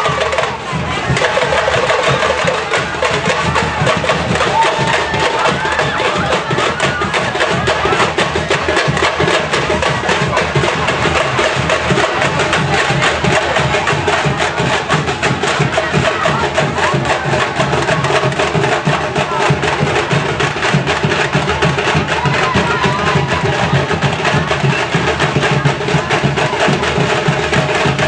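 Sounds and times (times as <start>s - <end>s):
fast dense percussion clicking: 0.0s - 28.0s.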